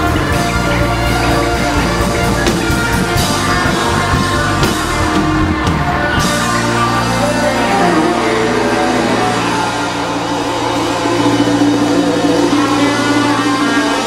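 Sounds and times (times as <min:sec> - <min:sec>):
band playing instrumental music: 0:00.0 - 0:14.0.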